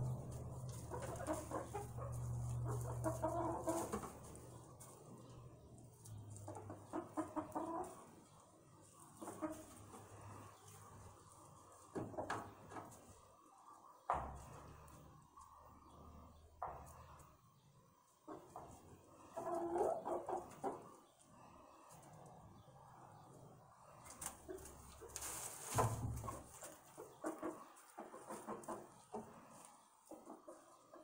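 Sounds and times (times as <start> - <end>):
hens clucking softly: 0.0 - 31.0.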